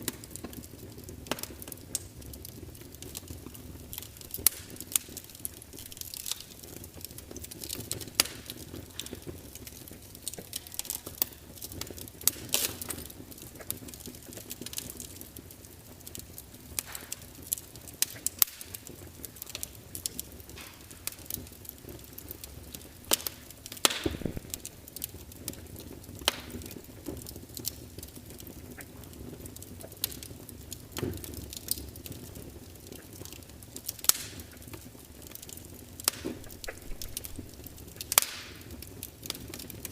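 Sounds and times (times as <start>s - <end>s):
sharp pops and snaps: 0.0s - 15.1s, 16.0s - 39.9s
log fire crackling: 0.0s - 39.9s
low rush of burning wood: 0.0s - 39.9s.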